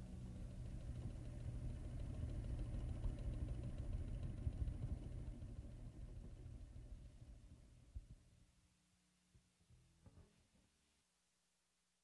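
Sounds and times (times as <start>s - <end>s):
faint low rumble: 0.0s - 10.1s.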